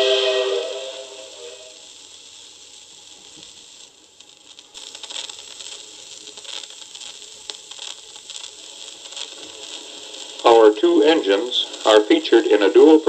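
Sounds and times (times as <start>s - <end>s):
vinyl record surface noise: 0.0s - 13.0s.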